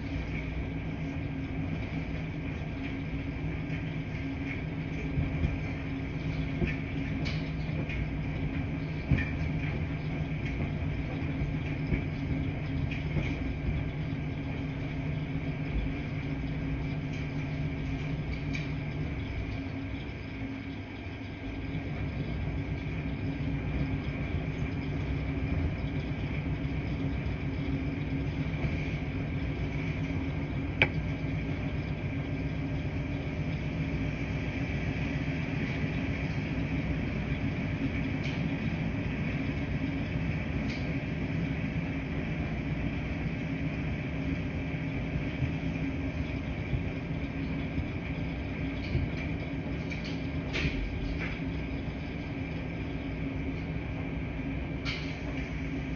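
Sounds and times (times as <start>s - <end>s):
machines humming and rumbling: 0.0s - 55.9s.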